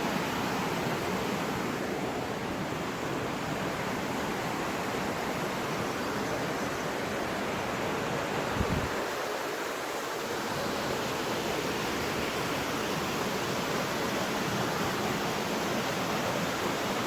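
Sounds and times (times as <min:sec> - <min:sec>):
fast-flowing water rushing: 0:00.0 - 0:17.0.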